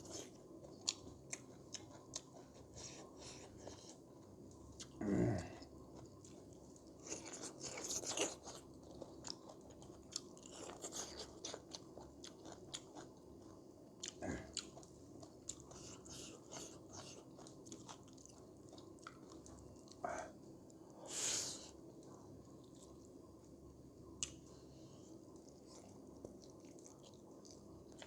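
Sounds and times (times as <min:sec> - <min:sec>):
person chewing and crunching food: 0:00.0 - 0:23.1, 0:24.2 - 0:28.0.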